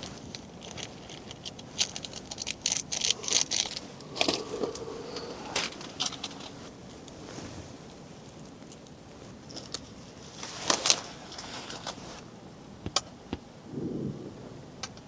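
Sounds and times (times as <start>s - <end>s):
short rustles: 0.0s - 12.2s.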